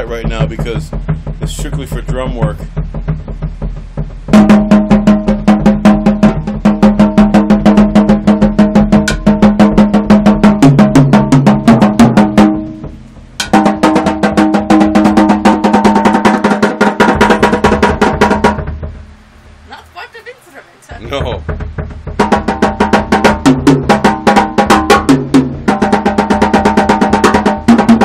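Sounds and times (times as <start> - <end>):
fast drum strokes: 0.0 - 28.0.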